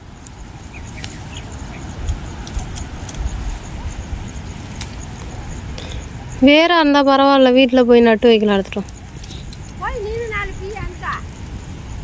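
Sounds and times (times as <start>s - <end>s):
plants rustling: 0.0s - 11.6s
wind buffeting microphone: 0.0s - 12.0s.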